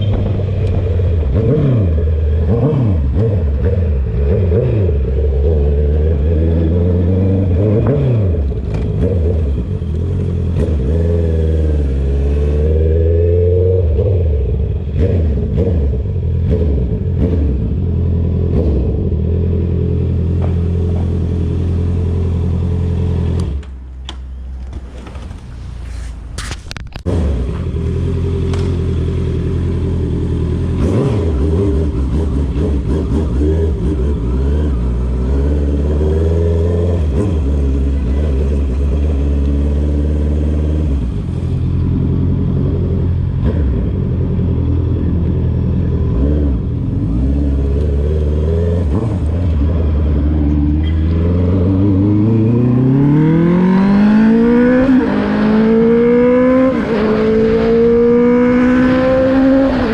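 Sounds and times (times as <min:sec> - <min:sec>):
motorcycle engine revving: 0:00.0 - 0:23.8, 0:26.9 - 0:59.9.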